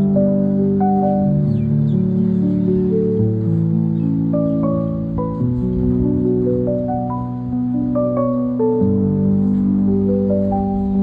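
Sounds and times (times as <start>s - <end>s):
gentle instrumental melody: 0.0s - 11.0s.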